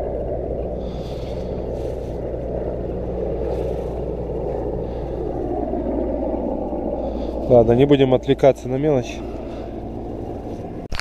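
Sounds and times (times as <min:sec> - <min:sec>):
helicopter drone: 0:00.0 - 0:11.0
low hum: 0:00.0 - 0:11.0.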